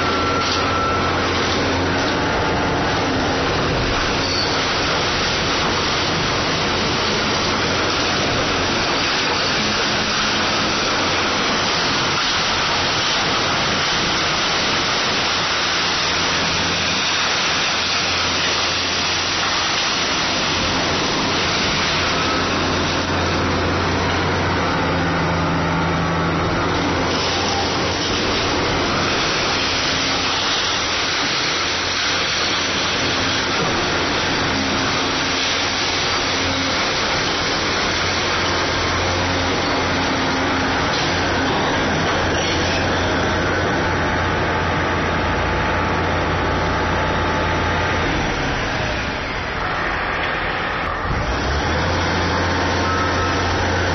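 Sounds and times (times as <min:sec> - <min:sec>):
excavator diesel engine hum: 0:00.0 - 0:53.9
harsh demolition noise: 0:00.0 - 0:53.9.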